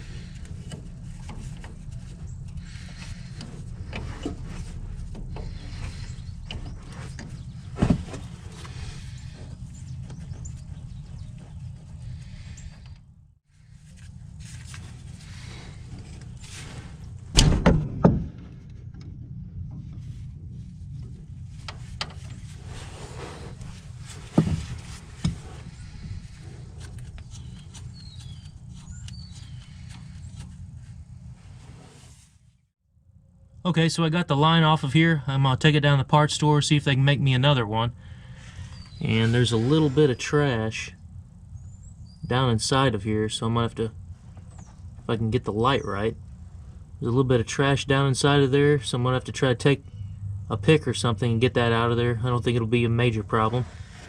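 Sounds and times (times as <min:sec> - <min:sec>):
steady low rumble: 0:00.0 - 0:31.9, 0:33.1 - 0:54.0.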